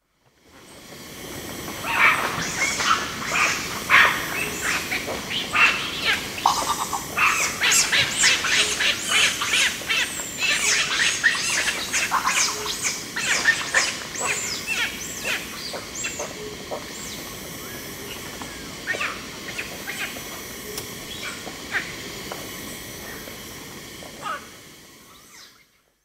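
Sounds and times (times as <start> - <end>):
monkeys making high-pitched calls: 1.8 - 22.2, 24.1 - 25.5.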